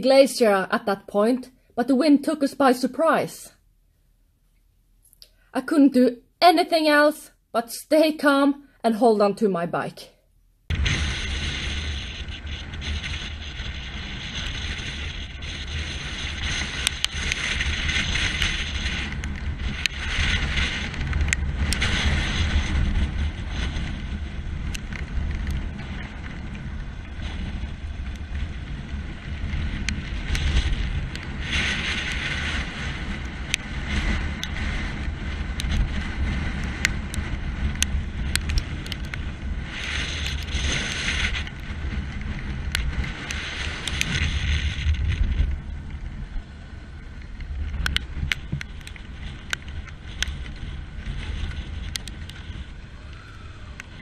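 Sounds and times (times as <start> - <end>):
gusting wind on microphone: 10.7 - 54.0.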